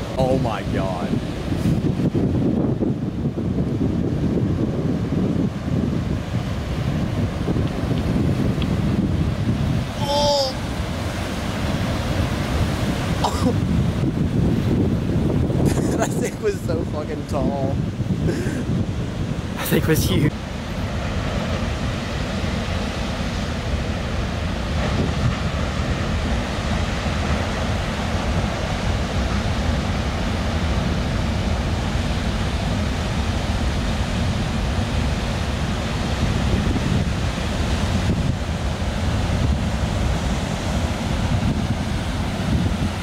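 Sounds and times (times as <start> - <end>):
ocean surf breaking: 0.0 - 43.0
wind buffeting microphone: 0.0 - 43.0.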